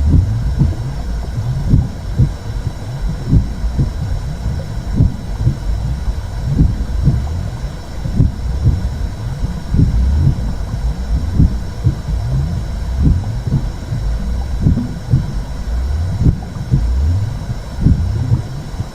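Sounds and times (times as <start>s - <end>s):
heartbeat-like thumps: 0.0s - 18.9s
low whooshing rumble: 0.0s - 18.9s.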